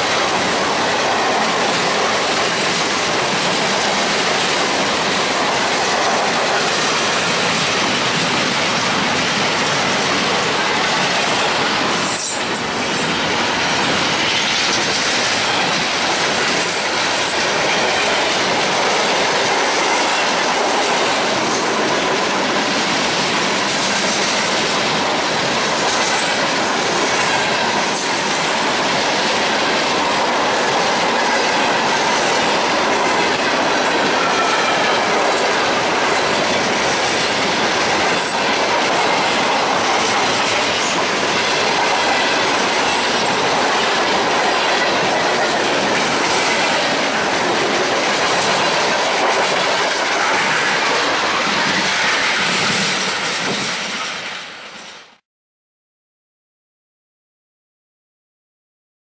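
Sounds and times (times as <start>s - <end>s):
steel wheels rushing on rails: 0.0s - 55.2s.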